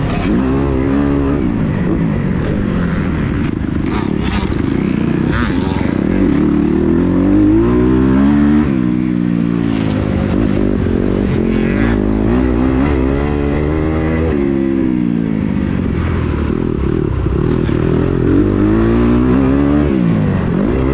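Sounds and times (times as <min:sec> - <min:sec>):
motorcycle engine revving hard: 0:00.0 - 0:20.9.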